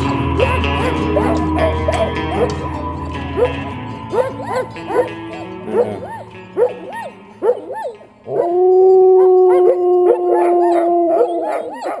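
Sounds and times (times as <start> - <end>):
sled dogs yipping and barking: 0.0 - 12.0
dog howling: 0.4 - 12.0.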